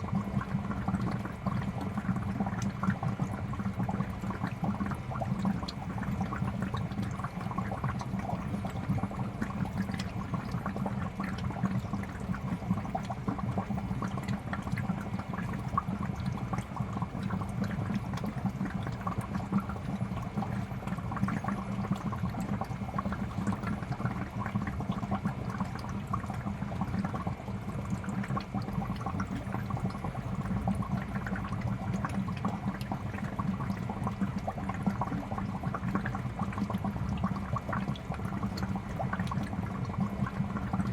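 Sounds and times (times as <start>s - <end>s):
aquarium bubbles popping: 0.0s - 40.9s.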